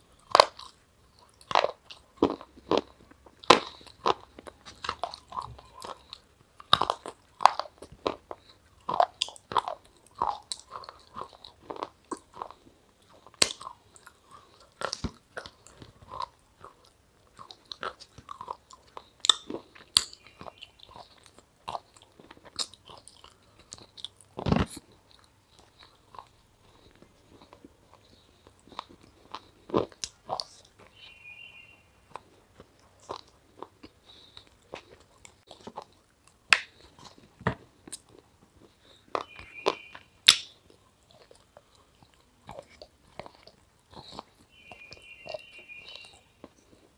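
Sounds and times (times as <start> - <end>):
person crunching and chewing food: 0.0 - 46.9.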